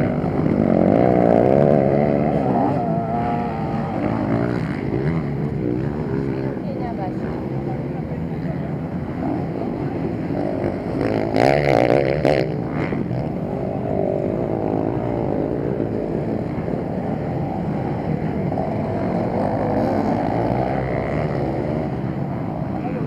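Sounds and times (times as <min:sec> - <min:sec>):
motocross engines running: 0:00.0 - 0:23.0
motorcycle revving hard: 0:00.0 - 0:23.0.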